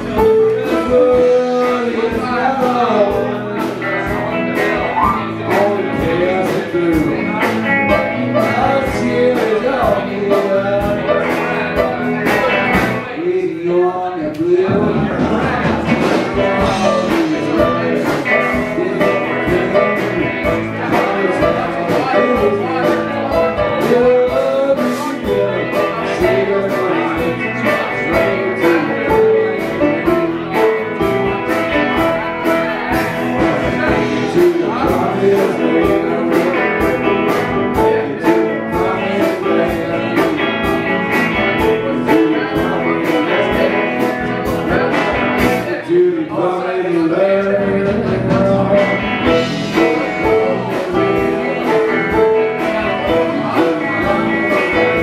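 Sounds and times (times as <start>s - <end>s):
live band playing: 0.0s - 55.0s
person singing: 0.0s - 55.0s.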